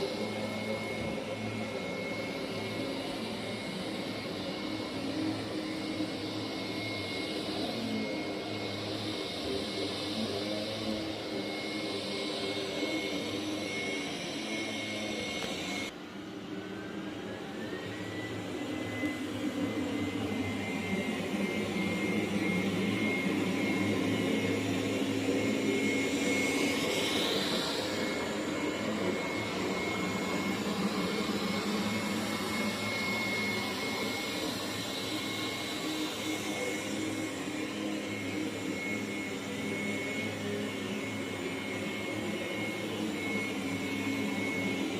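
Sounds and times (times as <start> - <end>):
robot vacuum fan whine: 0.0 - 44.9.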